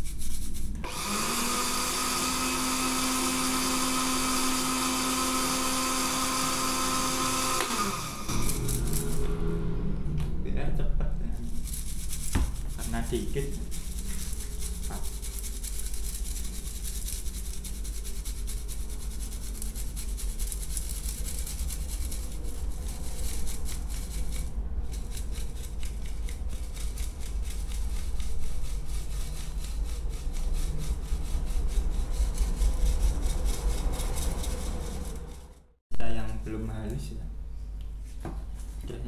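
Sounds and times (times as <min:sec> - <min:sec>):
powder sifted through mesh sieve: 0:00.0 - 0:09.2, 0:11.3 - 0:35.6.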